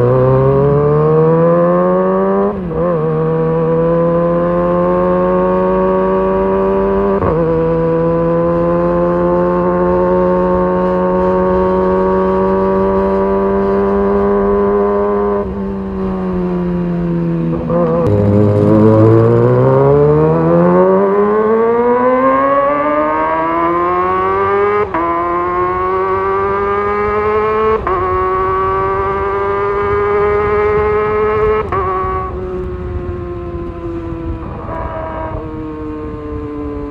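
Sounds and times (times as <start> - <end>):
motorcycle engine at high revs: 0.0 - 36.9.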